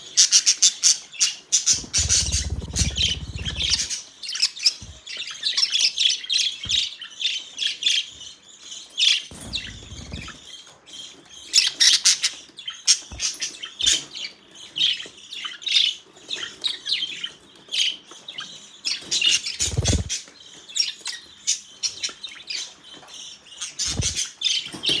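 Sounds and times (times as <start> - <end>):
budgerigars chirping: 0.0 - 8.1, 9.3 - 10.5, 11.2 - 25.0.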